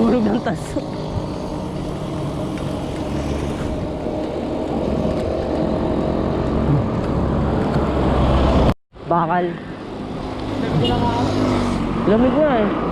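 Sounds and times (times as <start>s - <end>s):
traffic noise: 0.0s - 12.9s
vehicle engine rumbling: 0.0s - 12.9s.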